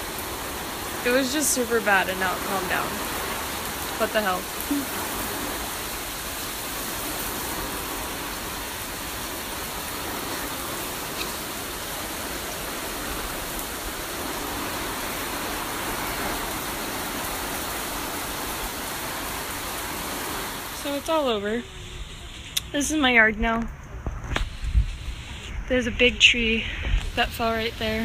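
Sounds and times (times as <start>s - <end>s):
heavy rain hissing: 0.0s - 23.2s, 24.2s - 28.0s.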